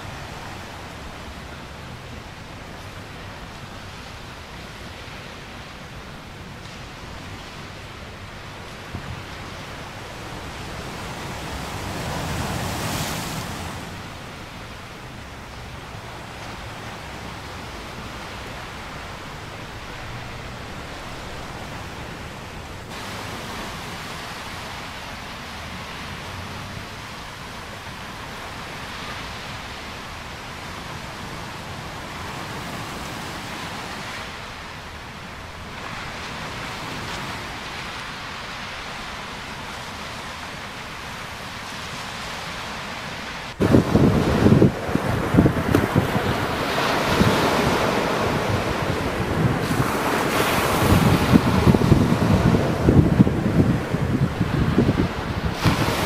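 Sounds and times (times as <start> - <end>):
surf breaking on beach: 0.0 - 14.9, 16.0 - 56.0.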